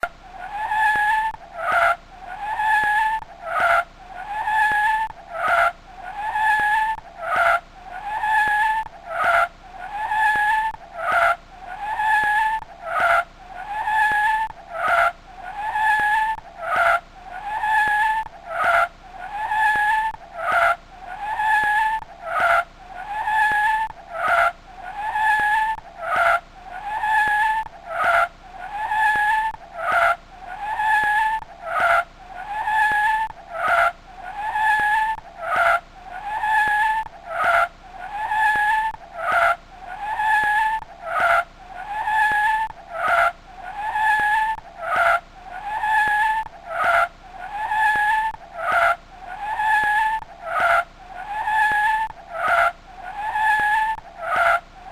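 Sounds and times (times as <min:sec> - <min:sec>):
high screeching squeal: 0:00.4 - 0:20.7, 0:21.3 - 0:50.8, 0:51.4 - 0:54.6.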